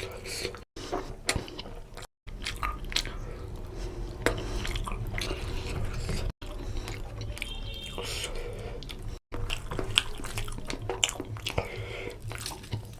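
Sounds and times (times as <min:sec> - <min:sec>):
wet chewing and lip-smacking: 0:01.2 - 0:12.9.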